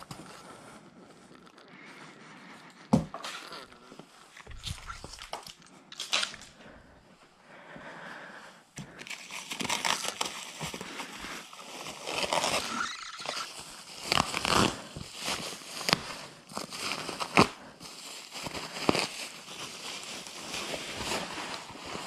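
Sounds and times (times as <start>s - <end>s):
bubble wrap crinkling: 0.0s - 6.9s, 8.8s - 22.0s.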